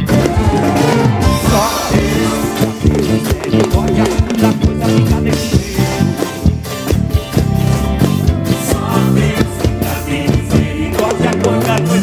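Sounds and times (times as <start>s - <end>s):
drum hits and cymbals: 0.0s - 12.0s
gospel band playing: 0.0s - 12.0s.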